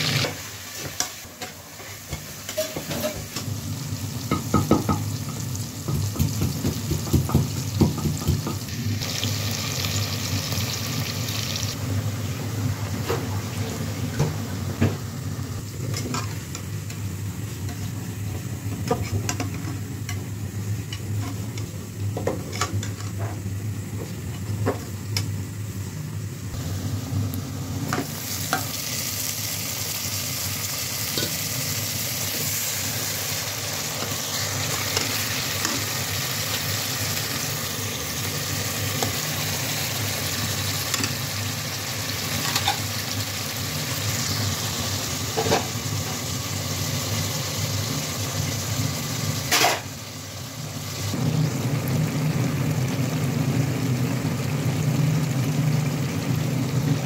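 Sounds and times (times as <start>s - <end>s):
onions sizzling in hot oil: 0.0s - 57.0s.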